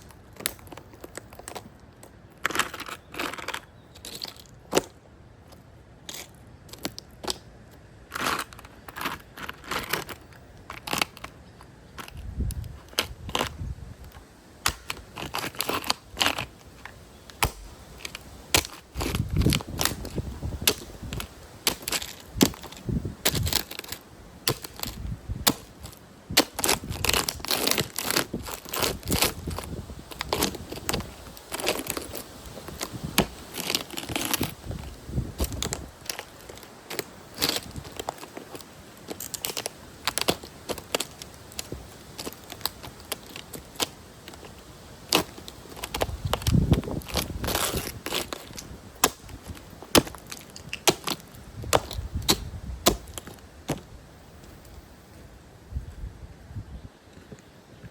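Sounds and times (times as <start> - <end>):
plastic toys cracking underfoot: 0.0 - 54.8
low crunch: 0.0 - 57.9.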